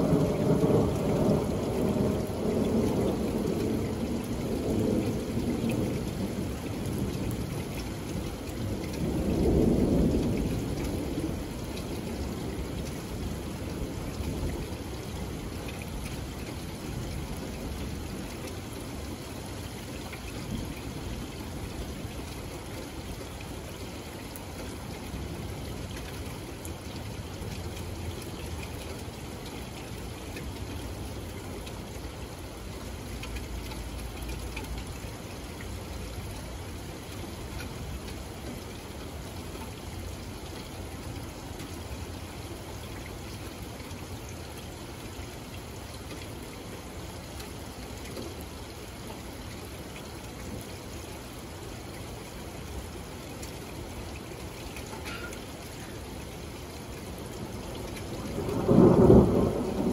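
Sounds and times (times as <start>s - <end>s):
rain on wooden deck: 0.0s - 59.9s.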